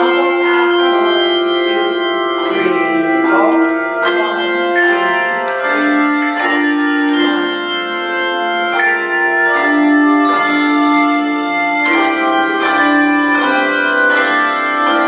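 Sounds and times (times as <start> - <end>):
handbells ringing melody: 0.0 - 15.0.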